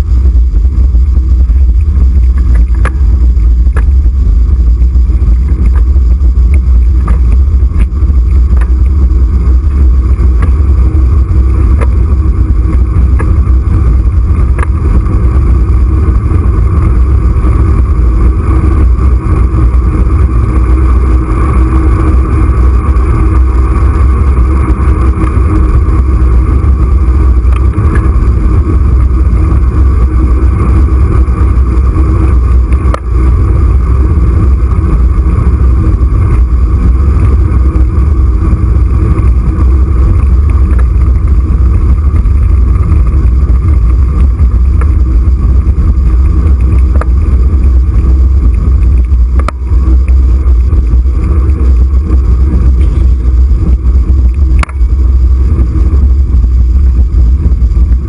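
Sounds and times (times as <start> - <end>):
tyre road rumble: 0.0 - 58.0
wind rushing over microphone: 0.0 - 58.0.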